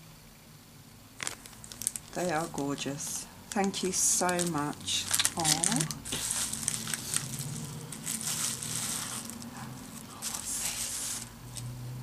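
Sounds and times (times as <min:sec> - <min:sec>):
low steady hum: 0:00.0 - 0:12.0
plastic wrapping crinkling: 0:01.2 - 0:11.7.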